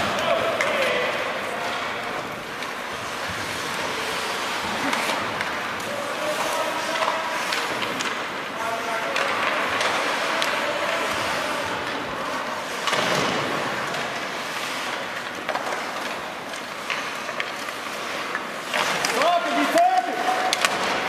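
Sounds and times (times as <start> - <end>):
skate blades scraping ice: 0.0 - 21.0
sticks and puck clacking: 0.0 - 21.0.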